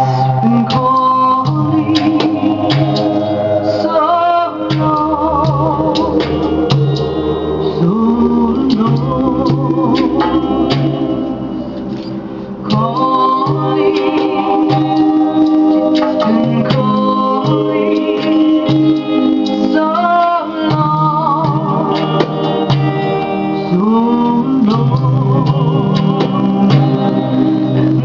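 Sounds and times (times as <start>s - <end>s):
strummed electric guitar: 0.0s - 28.0s
woman singing with vibrato: 0.0s - 28.0s.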